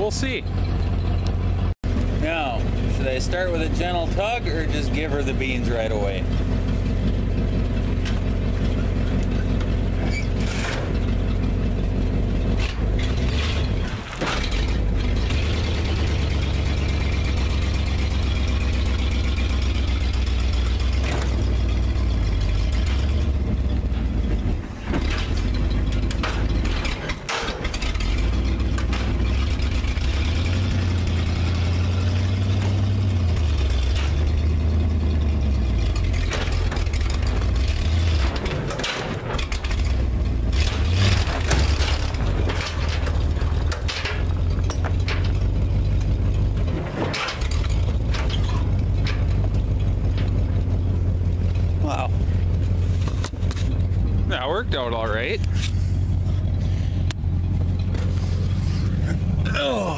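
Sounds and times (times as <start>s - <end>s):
truck engine under load: 0.0s - 59.9s.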